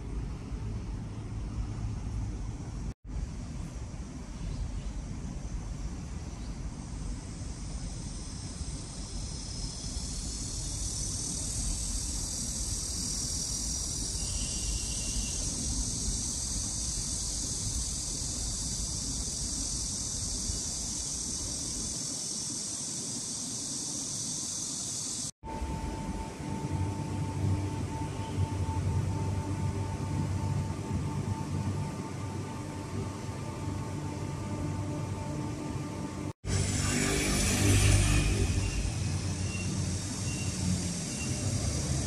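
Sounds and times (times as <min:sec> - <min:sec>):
low steady rumble: 0:00.0 - 0:21.9, 0:25.4 - 0:42.0
insects buzzing: 0:00.0 - 0:42.0.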